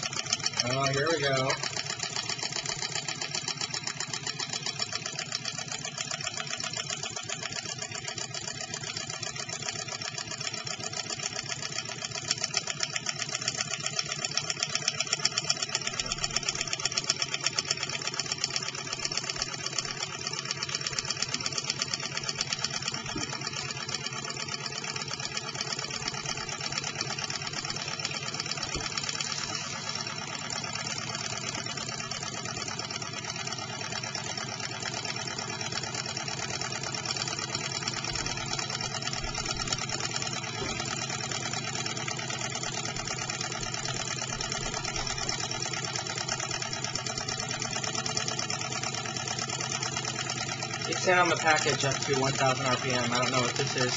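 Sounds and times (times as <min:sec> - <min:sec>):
small engine mechanical clatter: 0:00.0 - 0:53.9.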